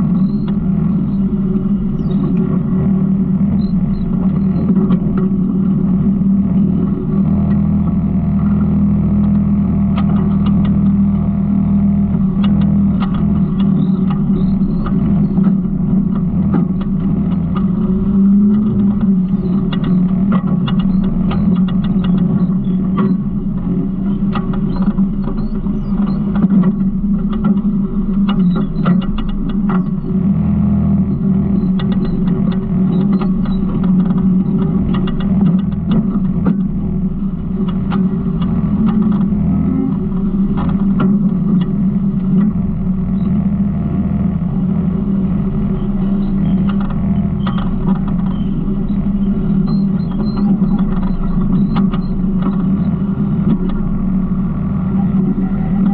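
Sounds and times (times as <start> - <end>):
garbage truck engine running: 0.0 - 55.9.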